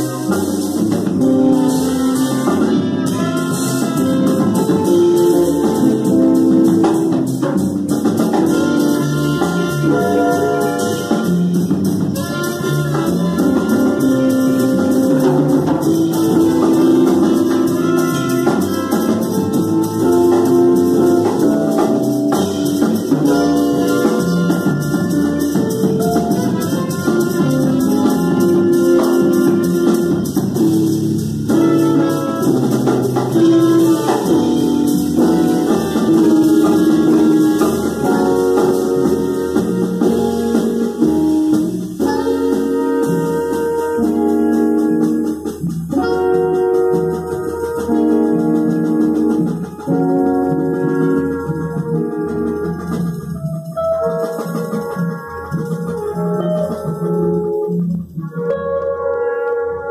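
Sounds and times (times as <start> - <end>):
upright bass: 0.0 - 58.8
alto saxophone: 0.0 - 59.9
drum kit: 0.0 - 59.9
trumpet: 0.0 - 59.9.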